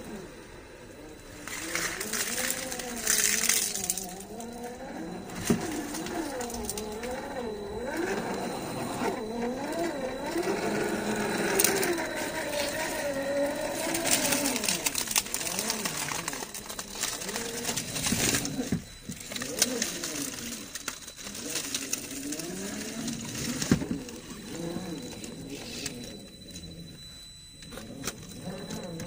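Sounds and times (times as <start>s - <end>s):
electric motor and gearbox whining: 0.0s - 29.0s.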